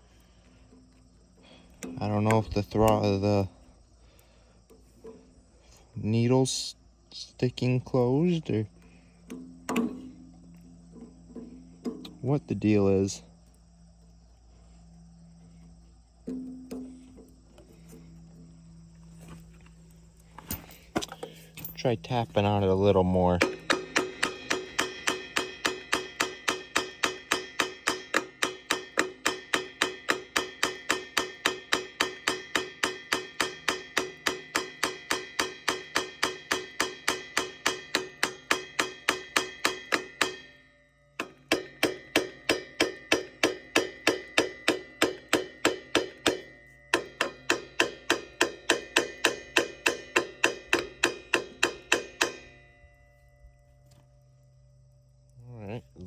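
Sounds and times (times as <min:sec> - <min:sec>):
ringing taps on metal: 0:01.8 - 0:05.2, 0:08.0 - 0:13.2, 0:16.2 - 0:18.5, 0:20.3 - 0:54.3.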